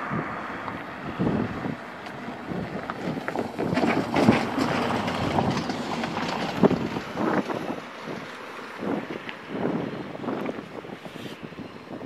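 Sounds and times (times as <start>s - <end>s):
distant train rumble: 0.0s - 10.8s
wind gusting on microphone: 0.0s - 12.0s.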